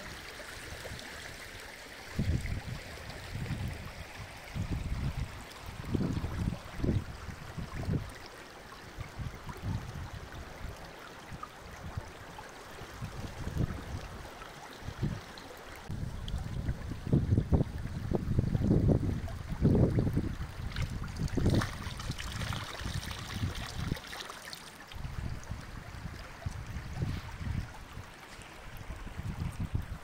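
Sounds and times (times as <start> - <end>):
stream babbling: 0.0 - 30.0
wind rumbling on microphone: 2.1 - 8.2, 8.8 - 24.0, 25.0 - 30.0.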